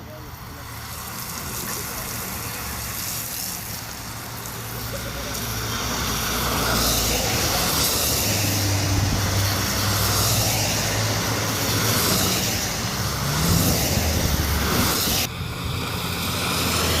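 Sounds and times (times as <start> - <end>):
vehicle engines humming: 0.0 - 17.0
broad hiss: 0.4 - 17.0.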